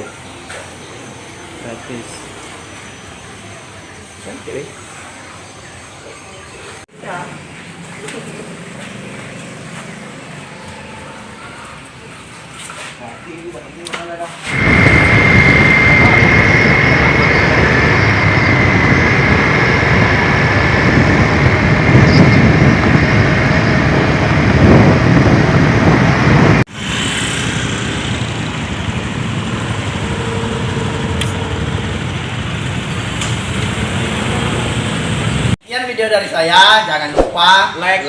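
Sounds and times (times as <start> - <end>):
road traffic and engine noise: 0.0 - 35.6.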